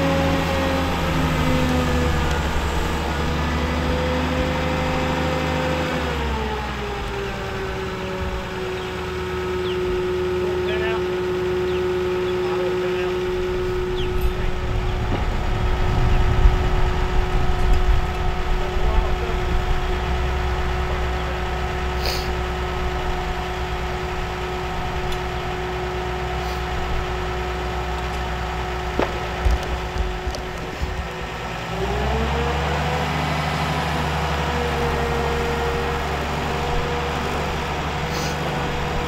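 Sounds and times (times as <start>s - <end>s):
engine idling with whine: 0.0s - 39.0s.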